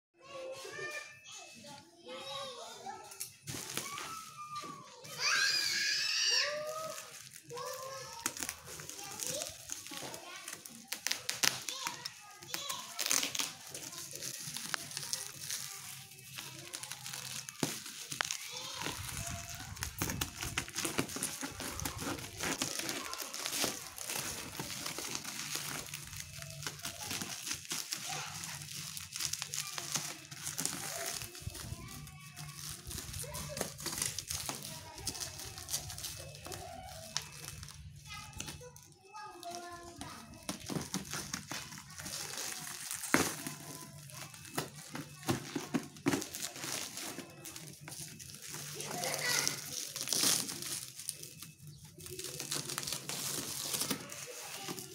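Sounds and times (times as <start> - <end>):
bubble wrap crinkling: 2.3 - 54.9.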